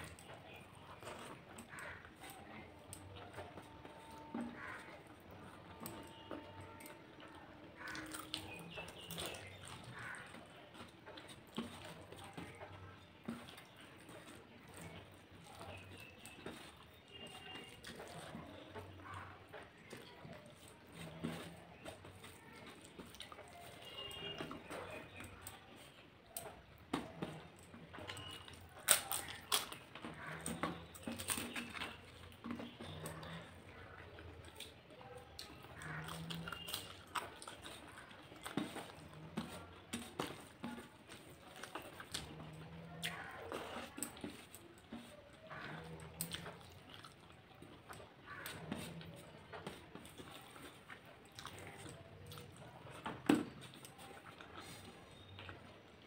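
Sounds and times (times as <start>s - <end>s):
crunchy food being chewed: 0.0s - 56.0s
wet chewing: 0.0s - 56.0s.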